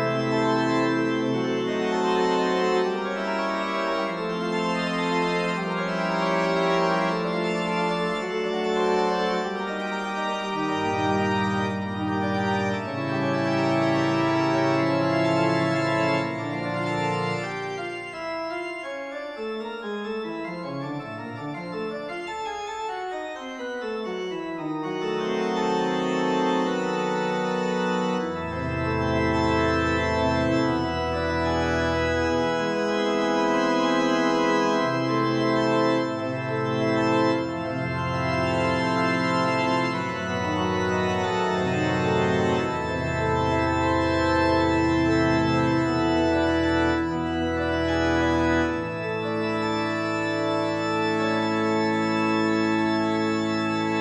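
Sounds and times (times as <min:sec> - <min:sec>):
deep organ bass notes: 0:00.0 - 0:54.0
organ chords: 0:00.0 - 0:54.0.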